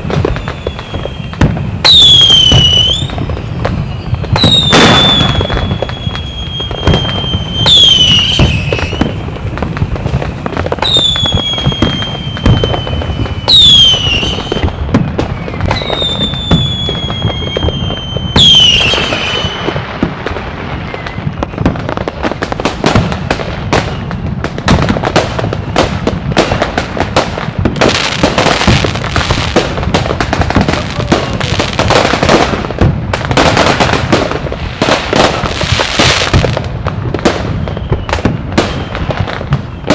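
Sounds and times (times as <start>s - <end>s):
firework bangs: 0.0s - 39.9s
whistling rockets: 0.0s - 39.9s.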